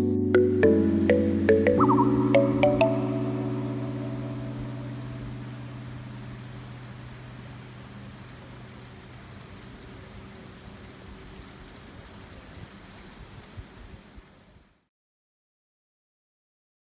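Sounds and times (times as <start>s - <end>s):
cicadas droning: 0.0s - 14.9s.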